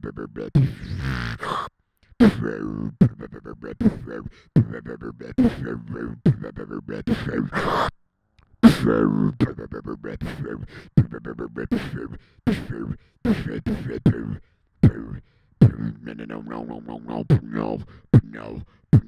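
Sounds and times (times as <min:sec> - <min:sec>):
person beatboxing: 0:00.0 - 0:07.9, 0:08.6 - 0:19.0.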